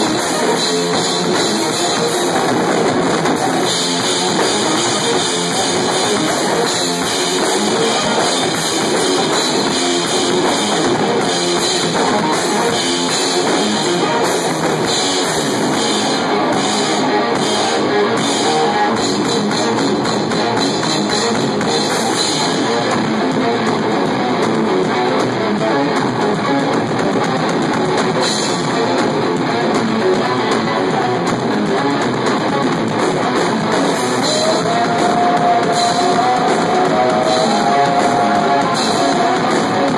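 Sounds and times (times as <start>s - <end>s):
live heavy rock music: 0.0s - 39.9s.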